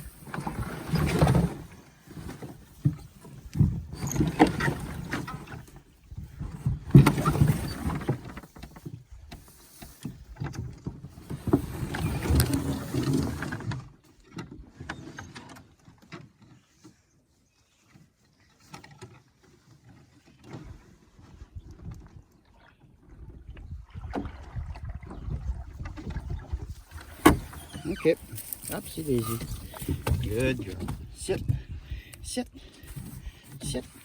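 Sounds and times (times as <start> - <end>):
paddle strokes in water: 0.0 - 32.0, 32.6 - 34.0.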